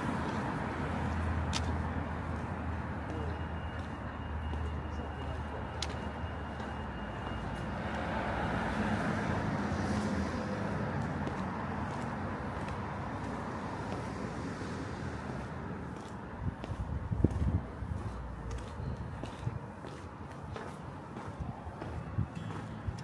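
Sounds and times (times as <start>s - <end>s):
vehicle passing: 4.4s - 23.0s.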